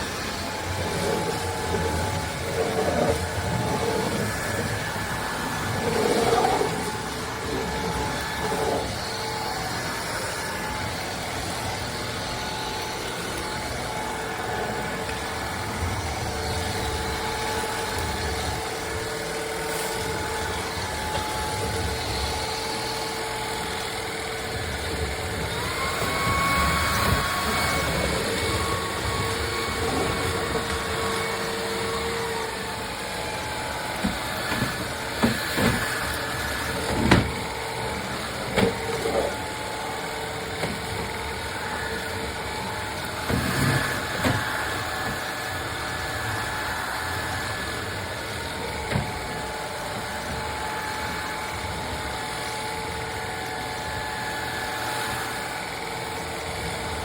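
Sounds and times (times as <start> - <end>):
motor humming: 0.0 - 56.9.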